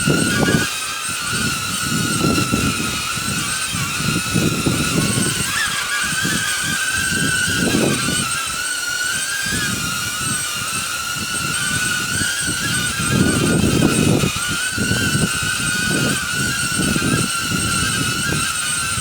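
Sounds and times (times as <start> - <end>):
drone propellers whining: 0.0 - 19.0
wind buffeting microphone: 0.0 - 19.0.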